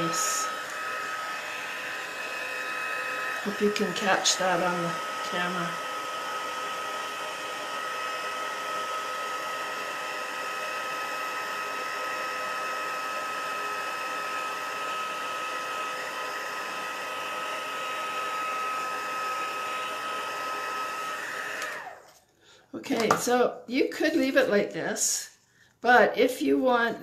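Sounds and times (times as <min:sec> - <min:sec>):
heat tool blowing air: 0:00.0 - 0:22.2.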